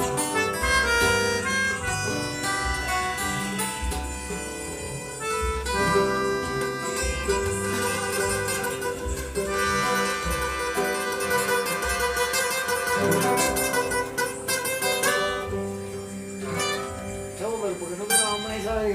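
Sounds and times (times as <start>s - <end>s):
plucked string ensemble music: 0.0s - 18.9s
pulsing bass line: 0.0s - 18.9s.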